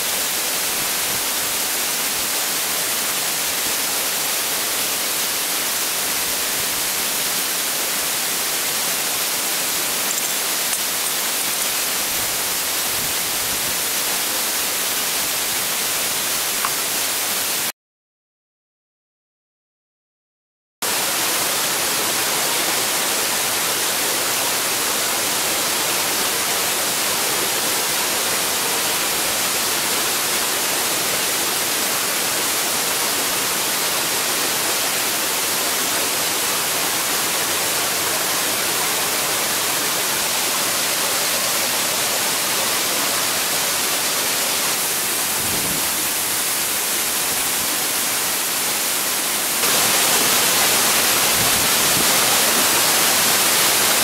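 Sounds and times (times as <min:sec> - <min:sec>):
falling water rushing: 0:00.0 - 0:17.7, 0:20.8 - 0:54.0.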